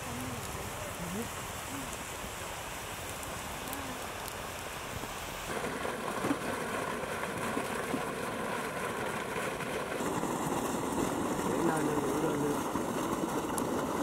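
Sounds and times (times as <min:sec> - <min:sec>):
water gushing and splashing: 0:00.0 - 0:14.0.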